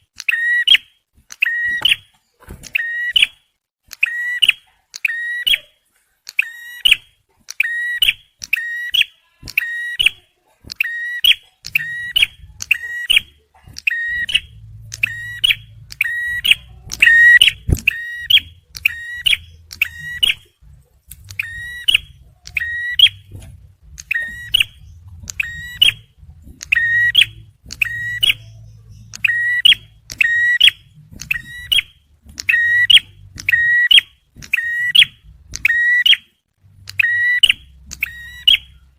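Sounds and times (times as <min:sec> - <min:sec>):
bird singing sharp high chirps: 0:04.0 - 0:20.6, 0:21.3 - 0:23.4, 0:24.0 - 0:36.3, 0:36.9 - 0:38.9.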